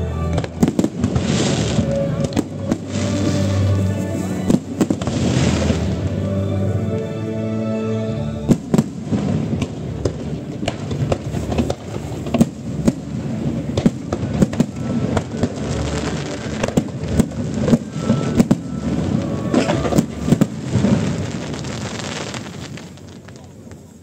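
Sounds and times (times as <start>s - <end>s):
fireworks booming: 0.3s - 6.2s, 8.5s - 24.0s.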